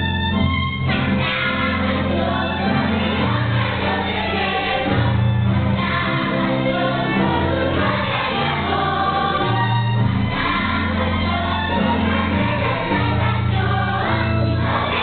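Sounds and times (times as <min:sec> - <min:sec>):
choir singing held chords: 0:00.9 - 0:15.0.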